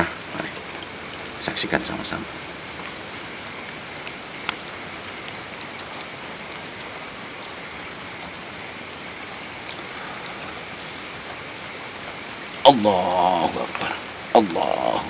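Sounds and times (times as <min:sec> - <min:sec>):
background hiss: 0:00.0 - 0:15.0
crickets trilling: 0:00.0 - 0:15.0.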